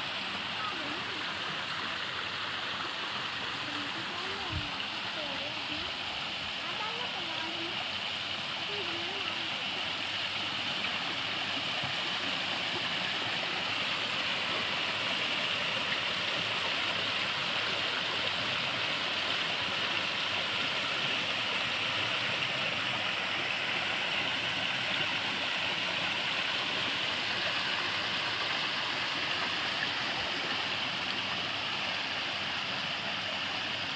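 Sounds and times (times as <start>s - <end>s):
waterfall splashing into pond: 0.0s - 33.9s.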